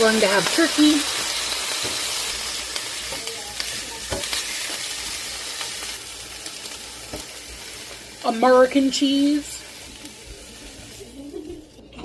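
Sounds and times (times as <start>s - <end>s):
food sizzling in frying pan: 0.0s - 11.8s.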